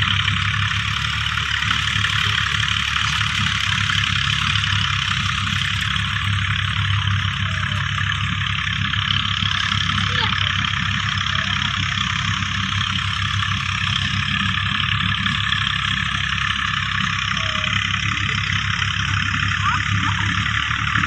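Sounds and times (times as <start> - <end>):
motor humming and buzzing: 0.0 - 21.0.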